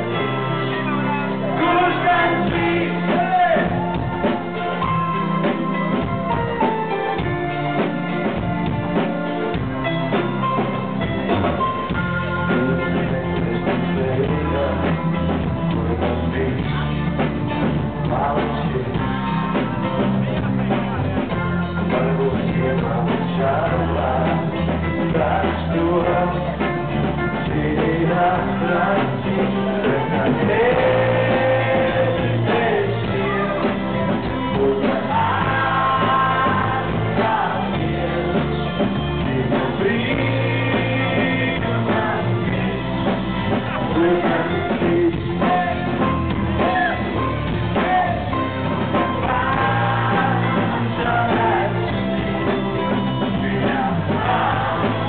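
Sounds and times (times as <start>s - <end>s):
man singing: 0.0s - 4.9s, 11.3s - 55.0s
muffled live rock band: 0.0s - 55.0s.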